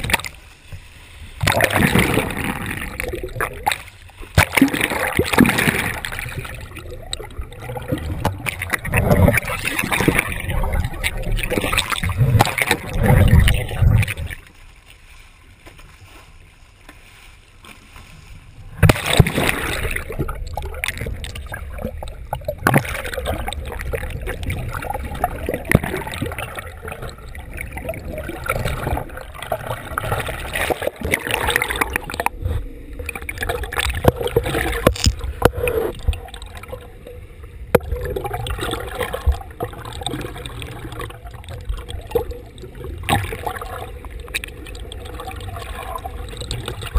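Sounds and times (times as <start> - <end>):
knocks and splashes: 0.0 - 14.6, 18.8 - 36.9, 37.7 - 46.9
water sloshing and gurgling: 0.0 - 46.9.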